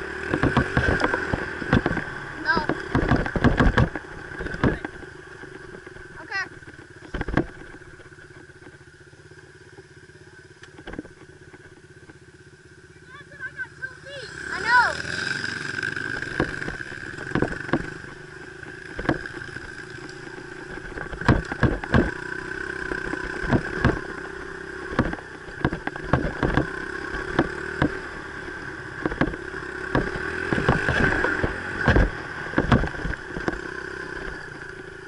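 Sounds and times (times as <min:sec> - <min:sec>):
sharp knocks and rattles: 0:00.0 - 0:09.0, 0:10.6 - 0:12.3, 0:15.7 - 0:35.0
dirt bike engine running: 0:00.0 - 0:35.0.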